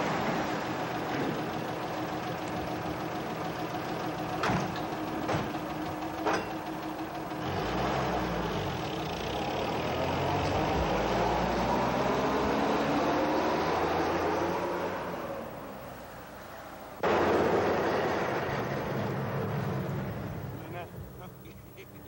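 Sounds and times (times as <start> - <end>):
vehicle engine starting and running: 0.0 - 22.0.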